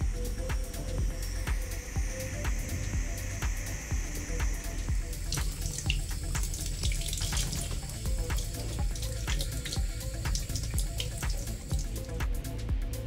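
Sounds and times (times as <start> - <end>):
soldering torch hissing: 0.0 - 12.1
tap water running: 0.6 - 12.2.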